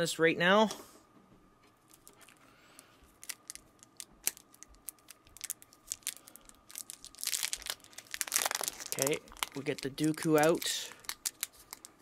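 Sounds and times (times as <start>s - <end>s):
packaging crinkling: 1.9s - 12.0s.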